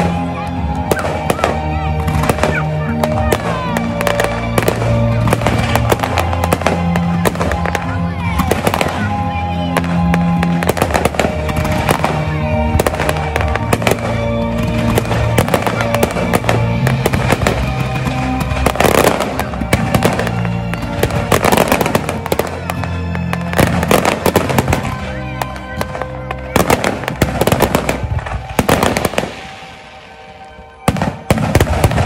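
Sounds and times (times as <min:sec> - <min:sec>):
fireworks bursting: 0:00.0 - 0:32.0
fireworks crackling: 0:00.0 - 0:32.0
music with held notes: 0:00.0 - 0:32.0.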